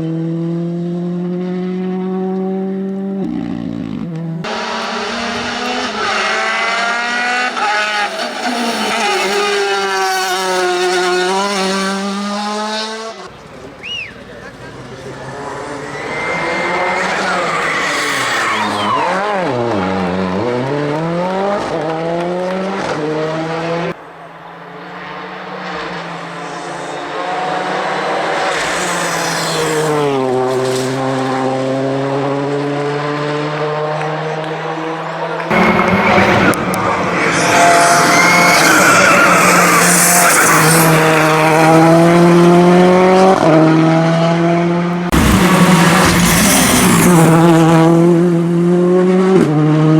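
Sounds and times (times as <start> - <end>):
rally car engine at high revs: 0.0 - 13.3, 15.0 - 49.9.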